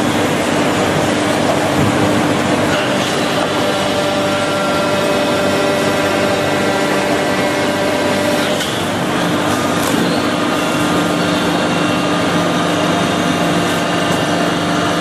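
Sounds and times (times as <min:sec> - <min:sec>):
saw machine droning and whining: 0:00.0 - 0:15.0.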